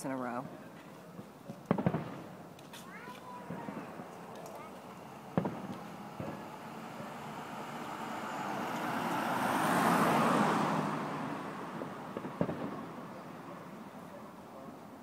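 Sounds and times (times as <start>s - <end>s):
motor vehicle passing: 1.7s - 14.8s.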